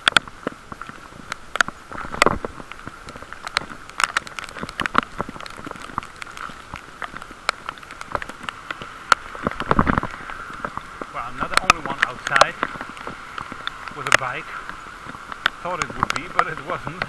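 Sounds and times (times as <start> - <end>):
heavy rain: 0.0 - 17.0
raindrops tapping near microphone: 0.0 - 17.0.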